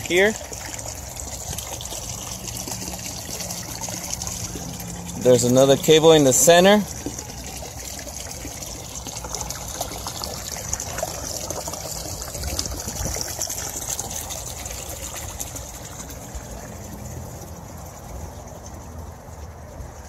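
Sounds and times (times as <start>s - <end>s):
water trickling into pond: 0.0s - 20.0s.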